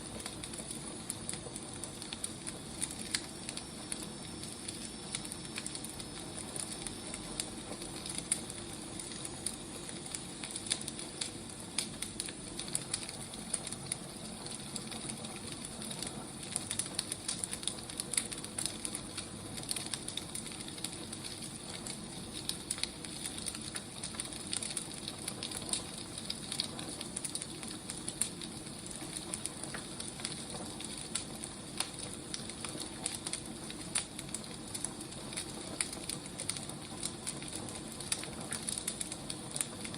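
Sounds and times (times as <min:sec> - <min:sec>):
firewood burning with crackles: 0:00.0 - 0:39.9.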